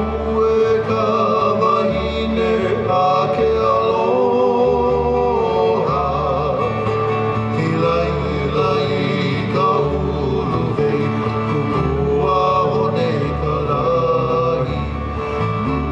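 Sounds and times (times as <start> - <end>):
guitar: 0.0 - 15.9
person singing with vibrato: 0.0 - 15.9.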